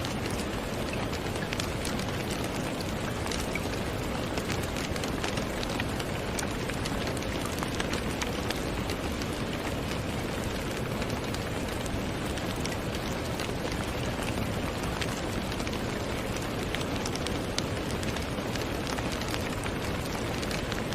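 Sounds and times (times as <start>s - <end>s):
raindrops ticking: 0.0s - 20.9s
steady rain hissing: 0.0s - 20.9s.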